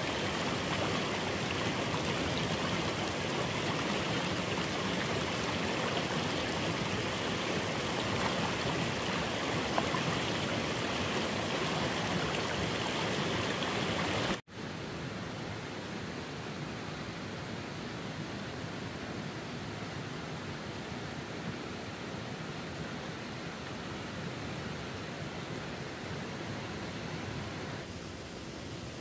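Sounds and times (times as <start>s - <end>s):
rushing water: 0.0s - 29.0s
steady hiss: 0.0s - 29.0s.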